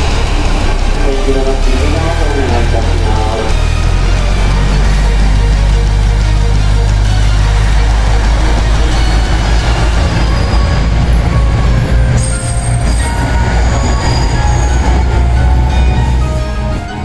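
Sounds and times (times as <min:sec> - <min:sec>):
diesel train rumbling: 0:00.0 - 0:17.0
high-pitched wheel squeals: 0:00.0 - 0:17.0.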